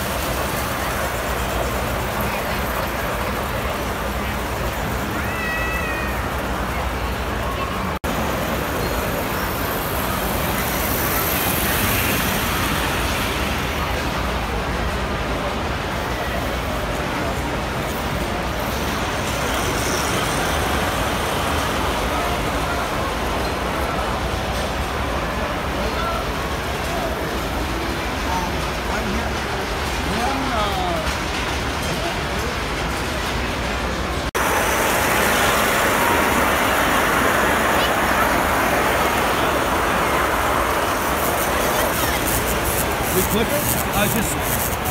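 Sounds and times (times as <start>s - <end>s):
crowd din in hall: 0.0s - 44.9s
toy train wheels rumbling on track: 0.0s - 44.9s.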